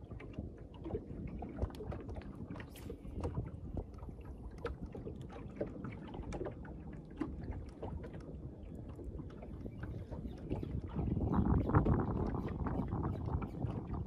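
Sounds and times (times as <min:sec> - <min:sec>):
waves lapping against boat hull: 0:00.0 - 0:14.0
wind rumble on microphone: 0:00.0 - 0:14.0.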